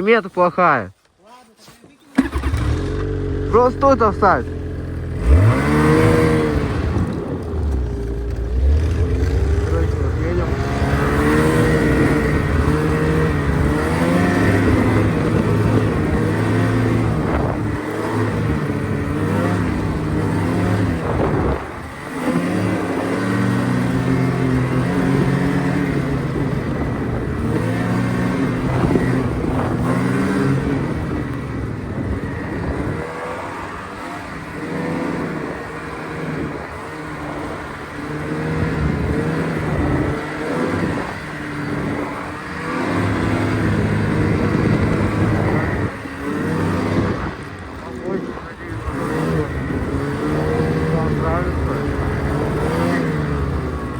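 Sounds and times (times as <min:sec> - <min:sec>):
vehicle engine under load: 0:02.0 - 0:53.9.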